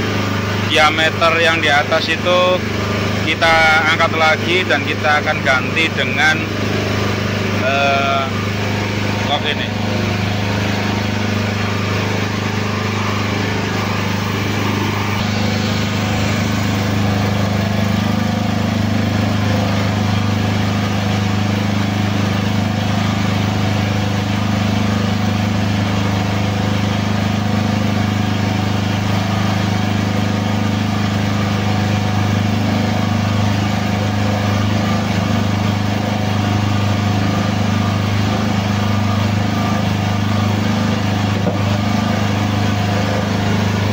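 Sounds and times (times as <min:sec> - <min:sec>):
hydraulic power unit humming: 0:00.0 - 0:43.9.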